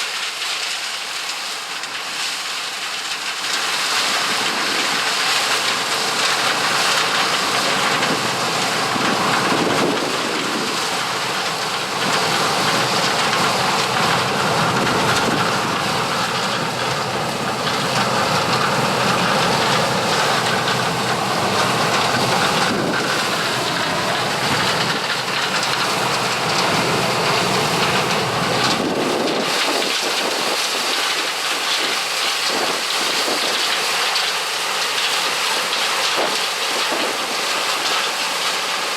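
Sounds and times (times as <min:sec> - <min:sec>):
combine harvester running: 0:00.1 - 0:38.9.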